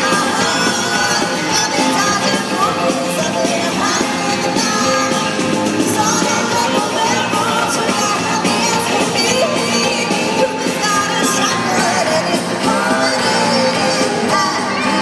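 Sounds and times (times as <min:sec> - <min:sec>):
live country-rock band: 0:00.0 - 0:15.0
woman singing lead vocal: 0:00.0 - 0:15.0.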